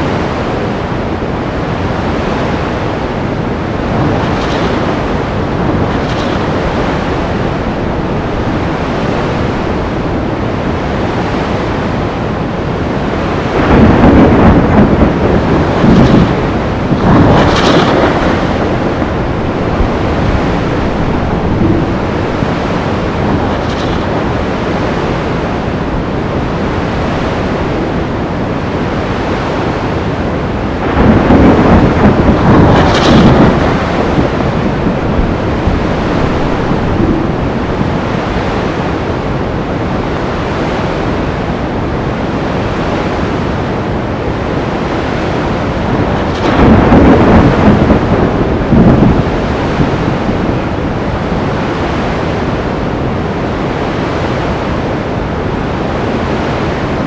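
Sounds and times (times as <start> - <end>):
surf roaring: 0.0 - 57.0
wind: 0.0 - 57.0
thunder claps: 1.7 - 40.5, 41.2 - 53.7.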